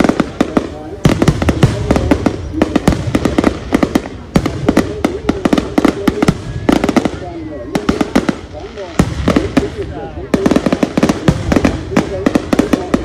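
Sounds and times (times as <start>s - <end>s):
crowd voices: 0.0s - 13.0s
fireworks bangs and crackles: 0.0s - 13.0s.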